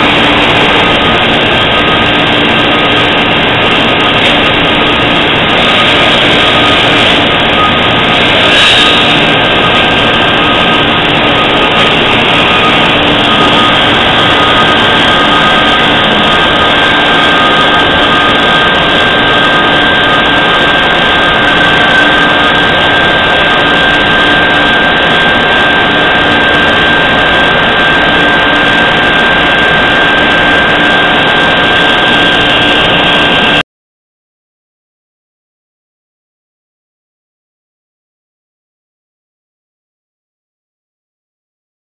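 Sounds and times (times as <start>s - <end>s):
high whining tones: 0.0s - 33.6s
machining center rushing noise: 0.0s - 33.6s.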